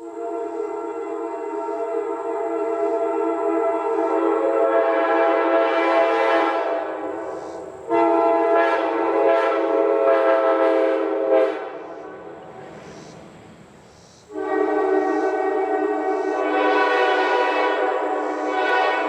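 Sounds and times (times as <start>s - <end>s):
locomotive air horn chord: 0.0s - 12.7s, 14.3s - 19.0s.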